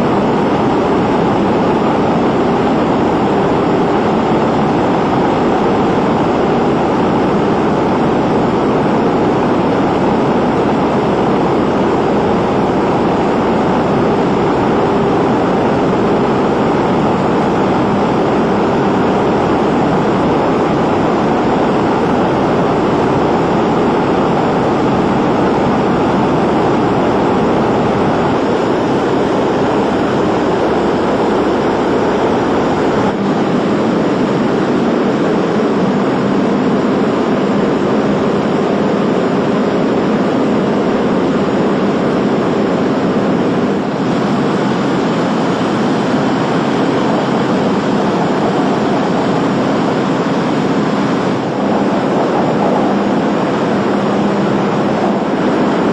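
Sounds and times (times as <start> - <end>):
propeller aircraft engines droning: 0.0 - 55.9.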